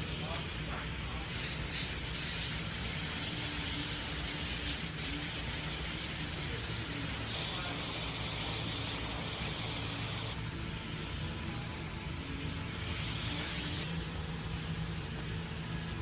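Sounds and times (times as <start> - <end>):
compressed air spraying hiss: 0.0 - 13.9
steady low hum: 0.0 - 16.0.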